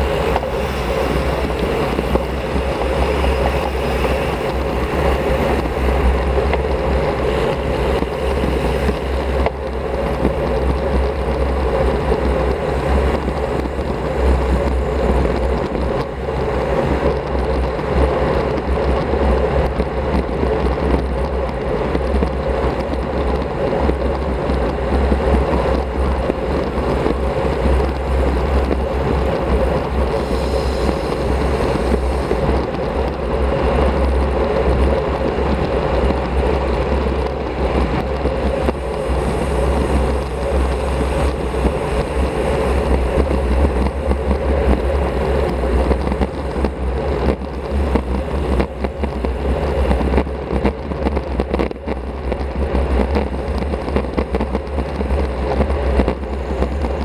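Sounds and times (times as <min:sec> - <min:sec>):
bicycle road noise: 0:00.0 - 0:57.0
wind buffeting microphone: 0:00.0 - 0:57.0.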